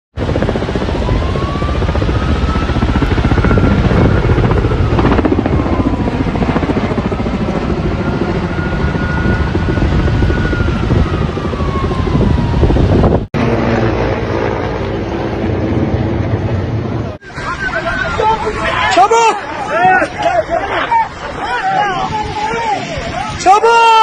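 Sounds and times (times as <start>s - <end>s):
helicopter rotor chopping: 0.2s - 24.0s.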